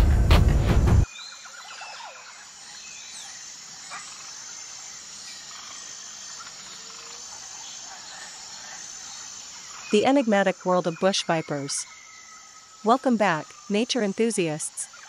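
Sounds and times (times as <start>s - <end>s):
high-pitched insect drone: 1.0s - 15.0s.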